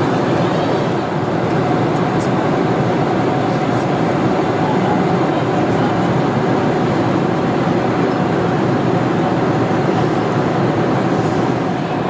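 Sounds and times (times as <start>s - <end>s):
aircraft cabin engine rush: 0.0s - 12.0s.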